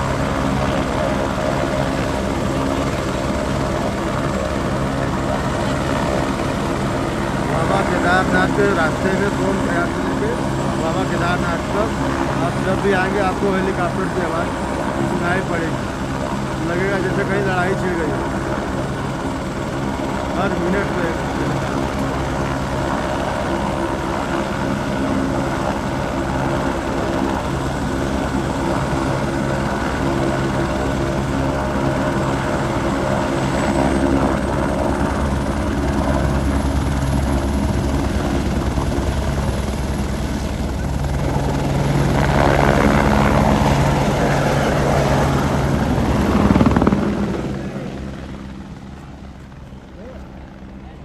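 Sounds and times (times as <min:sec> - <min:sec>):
helicopter rotor drone: 0:00.0 - 0:51.0.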